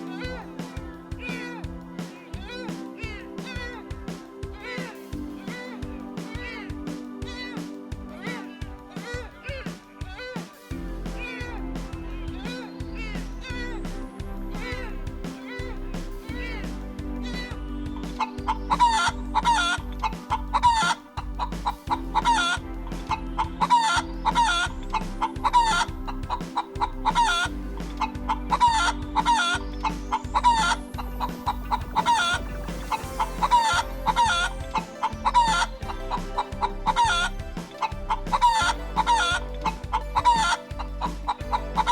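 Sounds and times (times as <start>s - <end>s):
background music: 0.0s - 41.9s.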